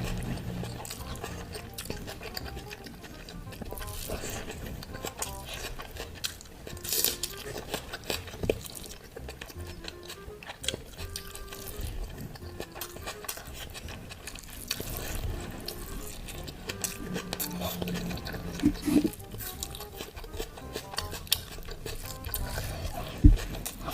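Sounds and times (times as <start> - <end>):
eating with wet clicks: 0.0 - 23.9
soft background music: 0.0 - 23.9.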